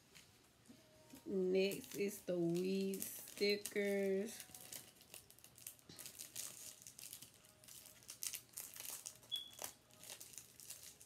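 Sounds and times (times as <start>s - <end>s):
plastic packet crinkling: 1.2s - 11.0s.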